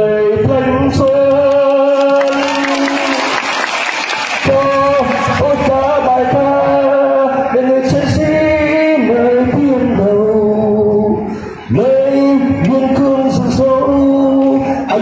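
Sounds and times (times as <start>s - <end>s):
man singing into a microphone: 0.0s - 3.3s, 4.4s - 15.0s.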